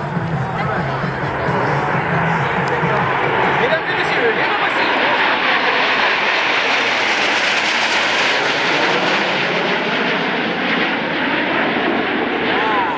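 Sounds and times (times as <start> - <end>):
jets passing overhead: 0.0 - 12.9.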